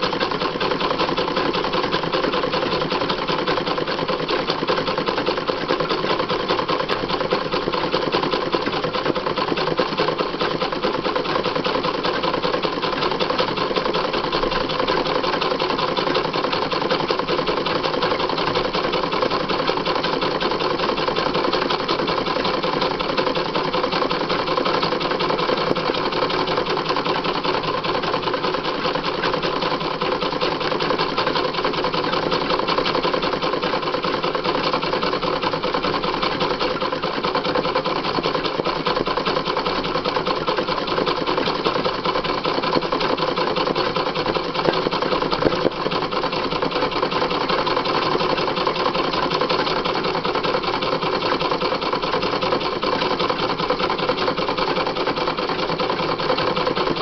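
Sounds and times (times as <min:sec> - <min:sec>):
sewing machine running: 0:00.0 - 0:57.0.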